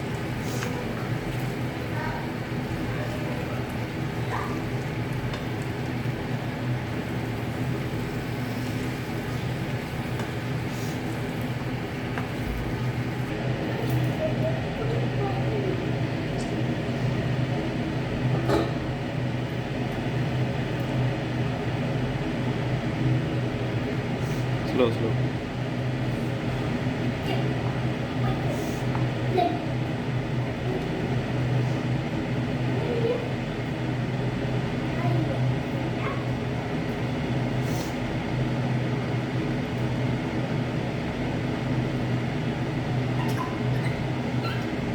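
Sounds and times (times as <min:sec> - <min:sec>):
electric fan motor humming: 0:00.0 - 0:44.9.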